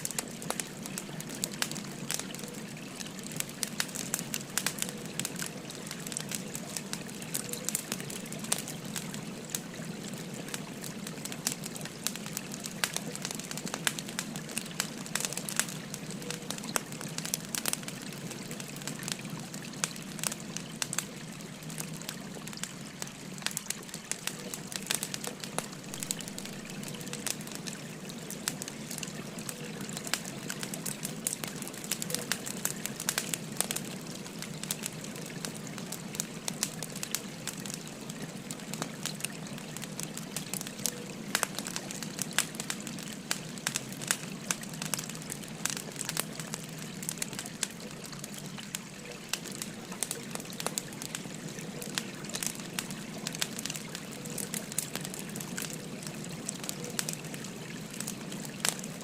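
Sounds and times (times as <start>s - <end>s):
babbling stream: 0.0s - 59.0s
wood fire crackling: 0.0s - 59.0s.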